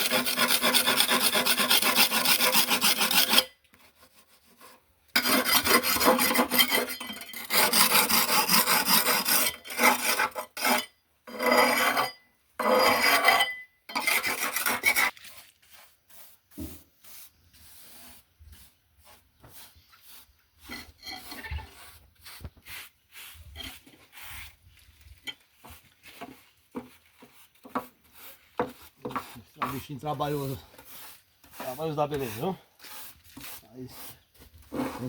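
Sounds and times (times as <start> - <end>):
hand tool scraping cement: 0.0 - 35.0.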